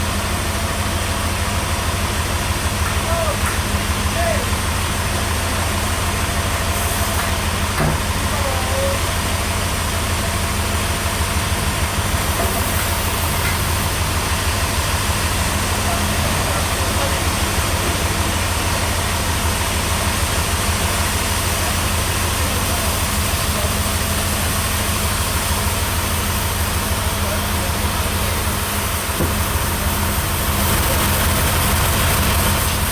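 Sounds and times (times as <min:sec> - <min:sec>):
heavy sawmill machinery throbbing: 0:00.0 - 0:32.9.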